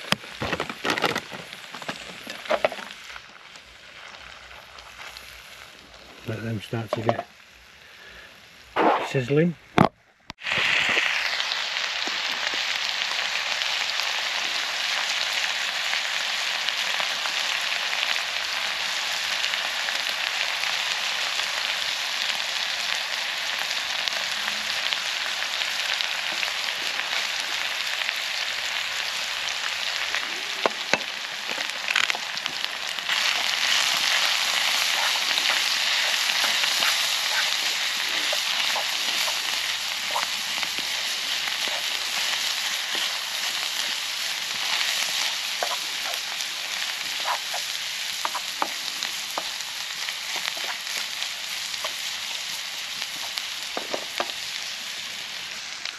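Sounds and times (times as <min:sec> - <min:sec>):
vegetables sizzling in oil: 0:00.0 - 0:09.2, 0:10.4 - 0:55.9.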